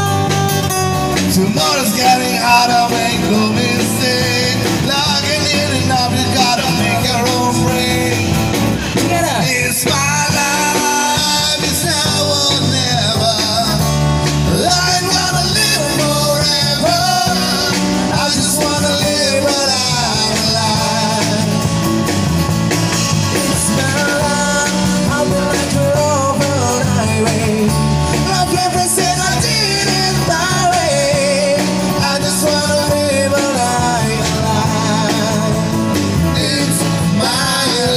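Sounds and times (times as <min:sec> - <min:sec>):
acoustic guitar: 0:00.0 - 0:37.9
drum kit: 0:00.0 - 0:37.9
electric guitar: 0:00.0 - 0:37.9
live band playing: 0:00.0 - 0:37.9
vocalists singing: 0:01.0 - 0:37.9.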